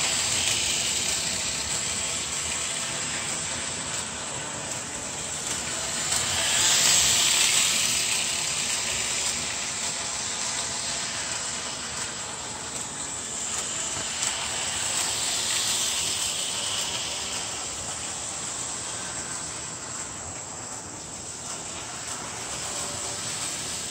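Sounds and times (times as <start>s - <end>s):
toy train whirring on track: 0.0s - 23.9s.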